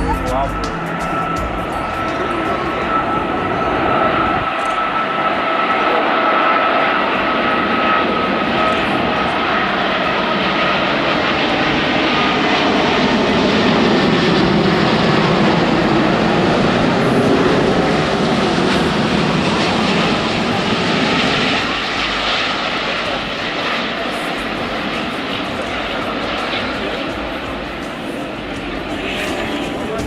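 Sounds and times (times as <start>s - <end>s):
high engine whine: 0.0s - 30.0s
jet engines roaring: 0.0s - 30.0s.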